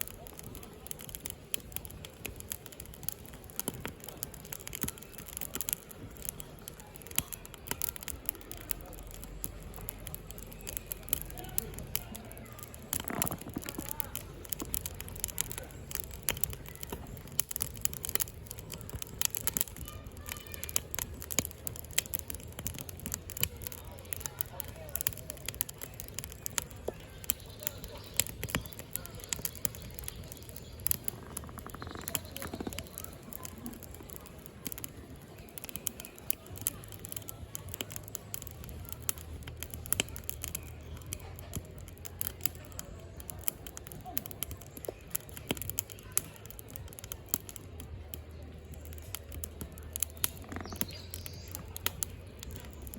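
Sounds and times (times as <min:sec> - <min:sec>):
firewood crackling and popping: 0:00.0 - 0:52.9
low steady fire rumble: 0:00.0 - 0:52.9.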